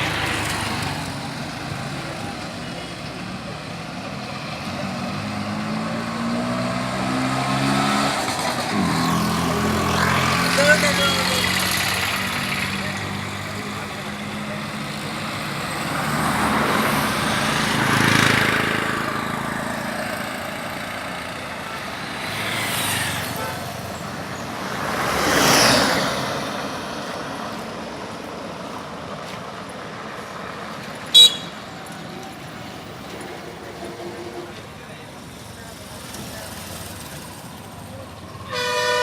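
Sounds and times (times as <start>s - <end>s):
road traffic hum: 0.0s - 39.0s
vehicles passing close by: 0.0s - 39.0s.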